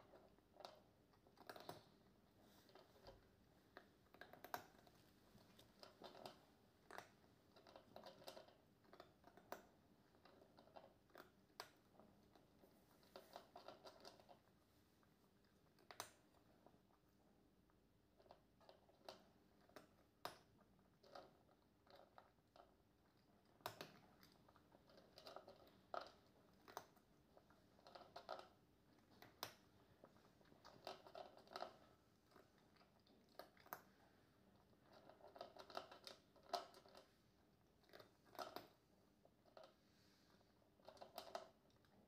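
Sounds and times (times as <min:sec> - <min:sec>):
cat chewing crunchy food: 0:00.0 - 0:14.6, 0:18.2 - 0:42.0.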